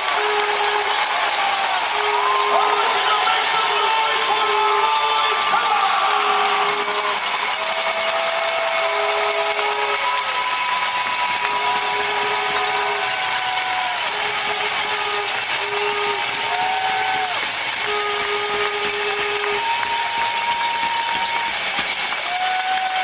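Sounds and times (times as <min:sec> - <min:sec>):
long held horn notes: 0:00.0 - 0:21.7
crowd cheering and clapping: 0:00.0 - 0:23.0.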